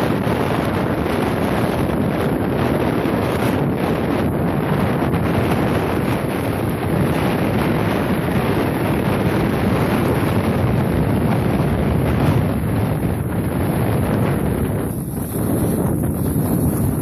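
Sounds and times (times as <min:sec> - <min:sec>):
air buffeting a microphone: 0:00.0 - 0:17.0
snowboard sliding over snow: 0:00.0 - 0:17.0.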